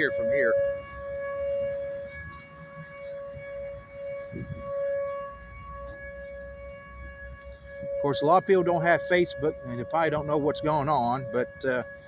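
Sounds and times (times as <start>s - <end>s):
distant warning siren: 0.0s - 12.0s.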